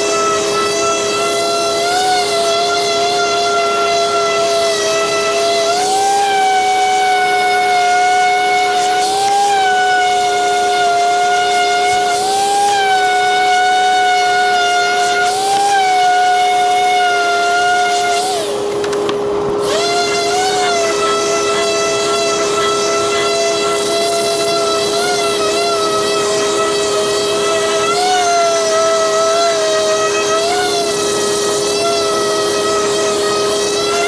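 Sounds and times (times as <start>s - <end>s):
power sander whining on wood: 0.0s - 34.0s.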